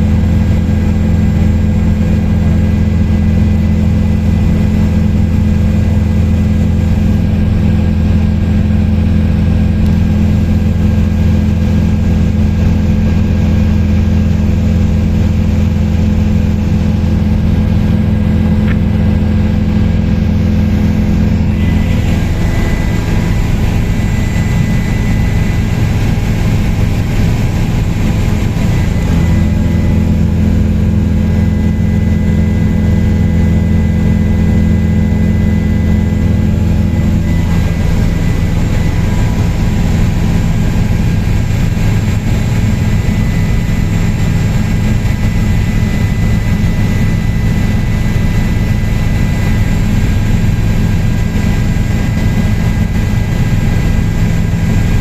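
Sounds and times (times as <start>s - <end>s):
helicopter rotor and engine drone: 0.0s - 55.0s
high whine: 0.0s - 55.0s.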